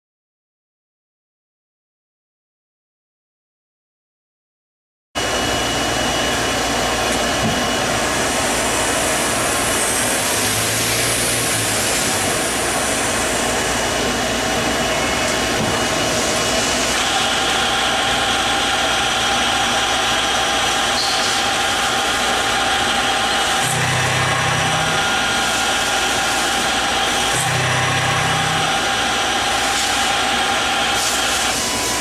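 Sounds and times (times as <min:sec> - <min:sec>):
lathe humming and hissing: 0:05.2 - 0:32.0.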